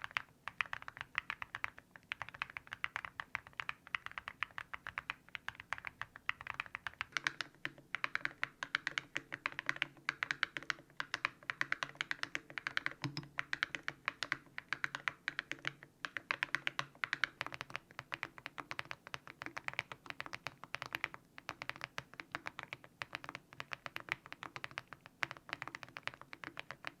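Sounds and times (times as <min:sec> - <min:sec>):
mechanical keyboard typing: 0:00.0 - 0:27.0.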